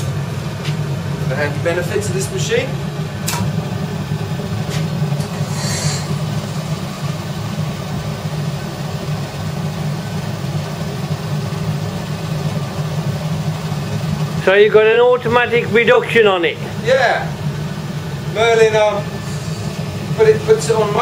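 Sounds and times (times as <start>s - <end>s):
furnace burner rumble: 0.0s - 21.0s.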